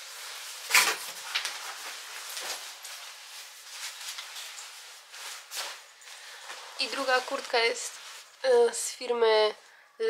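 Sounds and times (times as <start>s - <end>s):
nylon jackets rustling: 0.0s - 8.9s.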